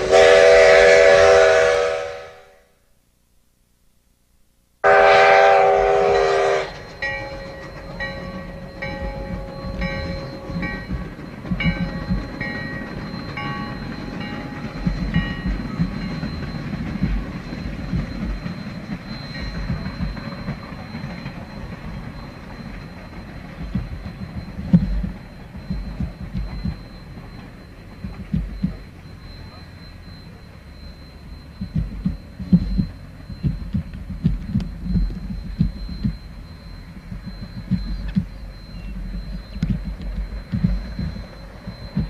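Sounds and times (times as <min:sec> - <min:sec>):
steam train rumbling past: 0:00.0 - 0:02.8, 0:04.8 - 0:42.0
short ringing tones: 0:04.8 - 0:42.0.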